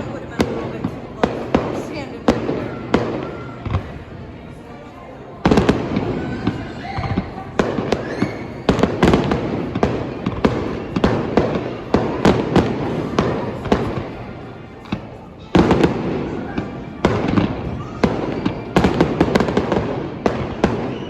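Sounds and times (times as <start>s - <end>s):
fireworks booming: 0.0s - 4.3s, 5.4s - 21.0s.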